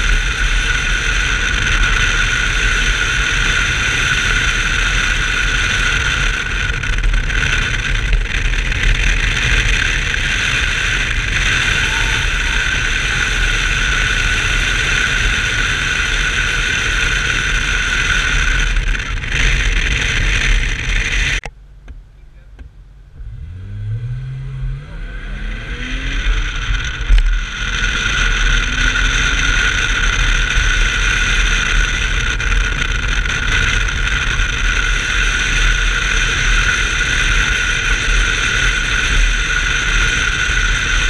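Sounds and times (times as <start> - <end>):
car engine running at speed: 0.0 - 41.0.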